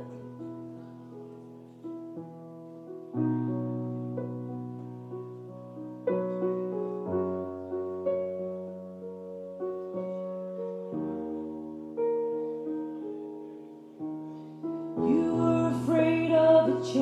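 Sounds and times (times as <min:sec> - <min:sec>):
gentle keyboard melody: 0:00.0 - 0:17.0.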